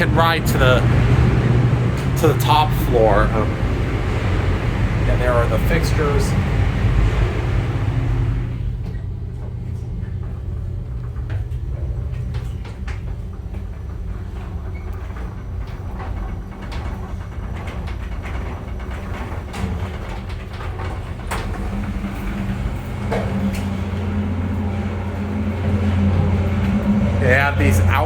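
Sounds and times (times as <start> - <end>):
elevator low rumble and hum: 0.0 - 28.0.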